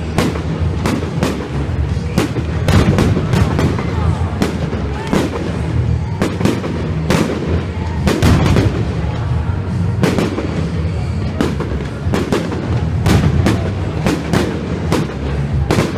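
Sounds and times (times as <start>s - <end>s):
firework bursts and bangs: 0.0s - 15.9s
low rumble of fireworks: 0.0s - 15.9s.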